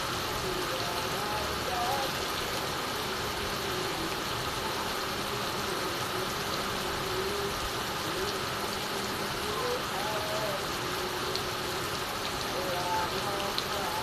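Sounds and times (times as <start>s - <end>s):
heavy rain on a tile roof: 0.0s - 14.0s
water streaming off eaves: 0.0s - 14.0s.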